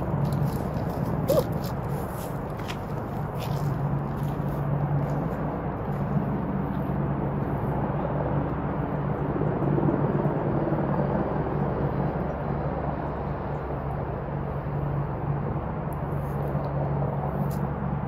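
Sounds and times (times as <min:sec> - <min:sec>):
low mechanical motor hum: 0:00.0 - 0:18.0
outdoor background noise: 0:00.0 - 0:18.0.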